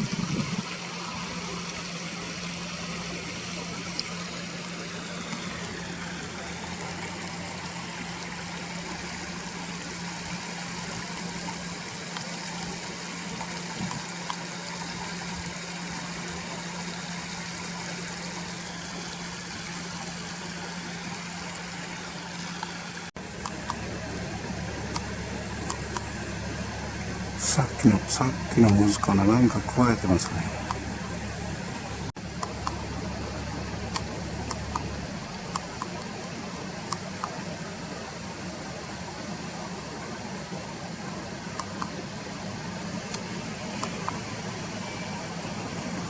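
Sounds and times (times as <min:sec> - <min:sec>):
low steady hum: 0:00.0 - 0:46.0
river flowing: 0:00.0 - 0:46.0.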